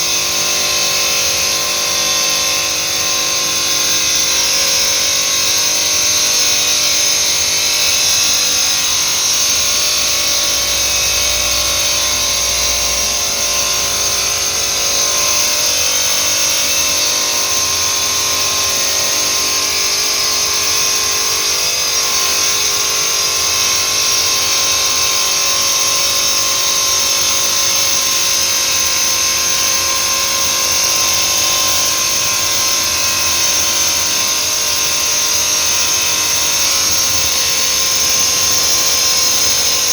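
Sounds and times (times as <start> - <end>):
stone-cutting machine whining: 0.0 - 39.9.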